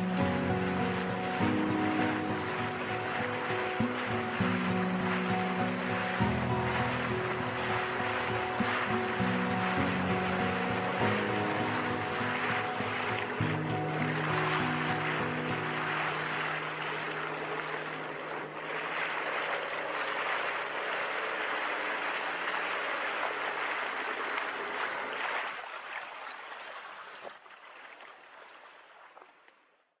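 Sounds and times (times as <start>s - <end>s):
water rushing and spraying: 0.0s - 29.3s.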